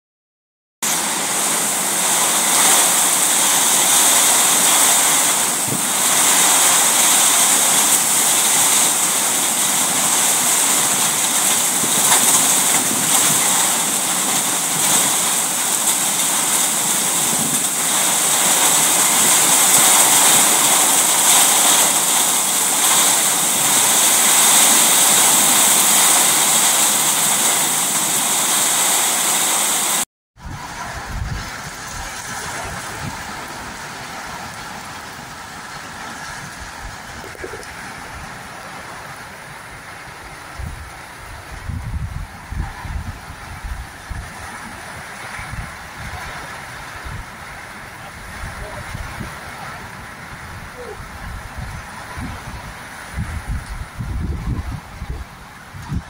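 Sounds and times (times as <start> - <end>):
heavy rain in strong wind: 0.8 - 56.0.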